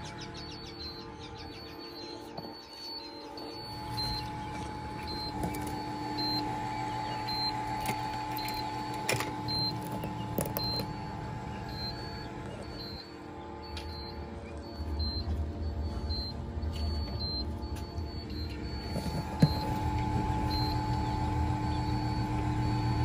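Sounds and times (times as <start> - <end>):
small motor humming: 0.0 - 23.0.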